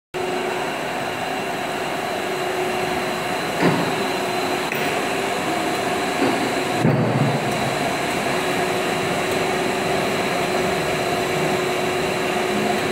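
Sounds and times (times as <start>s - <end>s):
extrusion machine running: 0.2s - 12.9s.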